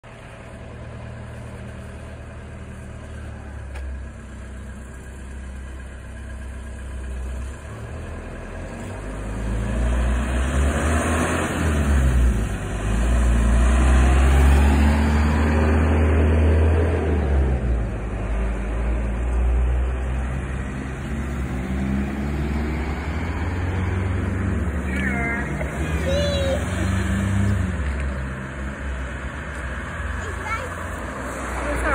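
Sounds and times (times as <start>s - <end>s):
fire engine driving past: 0.1s - 31.9s
van driving past: 0.1s - 31.9s.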